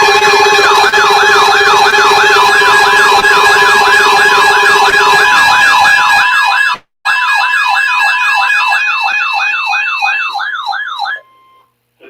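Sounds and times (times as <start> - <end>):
electronic siren yelping: 0.0 - 11.6.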